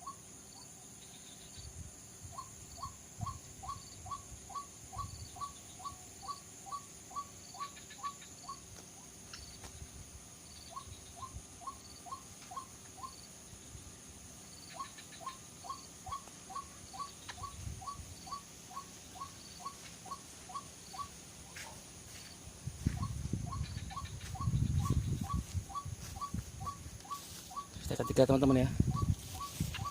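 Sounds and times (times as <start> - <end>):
insects buzzing: 0.0 - 29.9.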